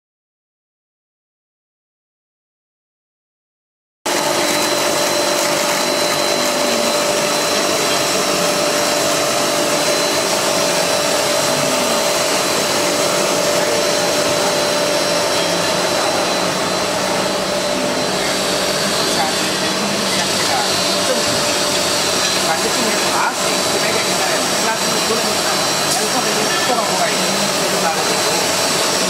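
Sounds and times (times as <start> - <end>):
machine motors and blowers whirring: 4.1 - 29.0
thin high whine: 4.1 - 29.0.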